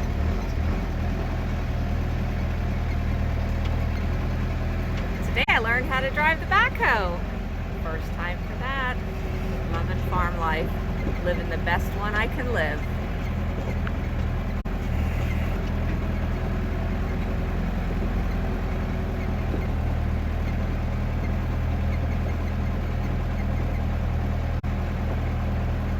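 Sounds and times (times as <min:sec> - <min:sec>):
backhoe engine running: 0:00.0 - 0:25.9.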